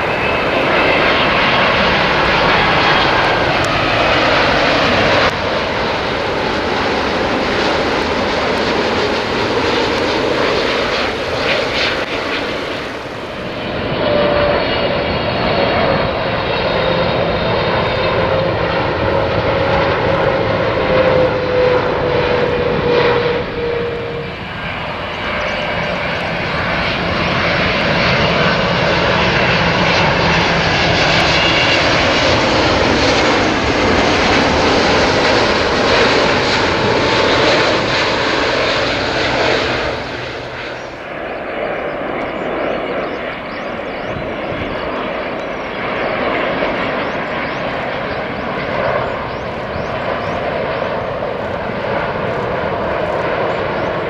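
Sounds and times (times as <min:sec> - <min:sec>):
jet engine rumble and whine: 0:00.0 - 0:54.0.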